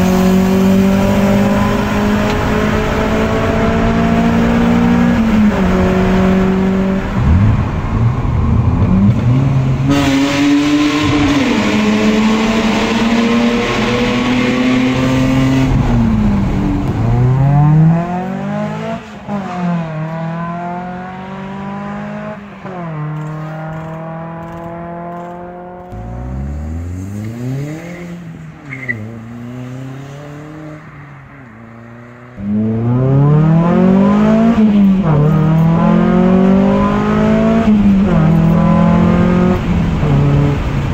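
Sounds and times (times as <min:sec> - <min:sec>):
car engine revving through gears: 0:00.0 - 0:31.0, 0:31.6 - 0:40.9
car accelerating away: 0:00.0 - 0:40.9.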